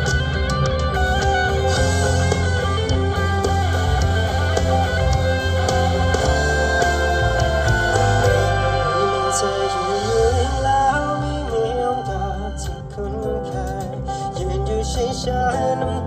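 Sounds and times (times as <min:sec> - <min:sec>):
bass guitar line: 0:00.0 - 0:16.0
electric and acoustic guitars: 0:00.0 - 0:16.0
keyboard: 0:00.0 - 0:16.0.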